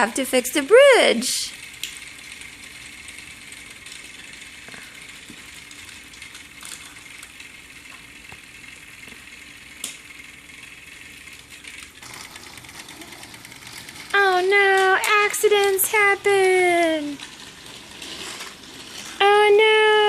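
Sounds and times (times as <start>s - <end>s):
toy train motors whirring: 0.0s - 20.0s.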